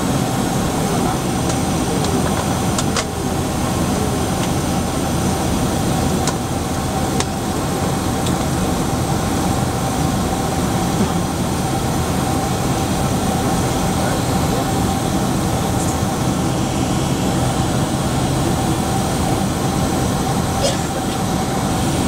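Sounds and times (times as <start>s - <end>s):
jet engines and rushing air: 0.0s - 22.0s.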